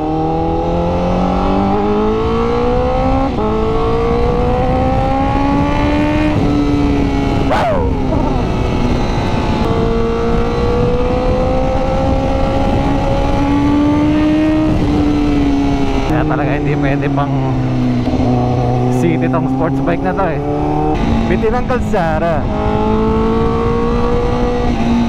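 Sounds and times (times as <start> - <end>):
motorcycle engine accelerating: 0.0 - 25.0
wind rush: 0.0 - 25.0.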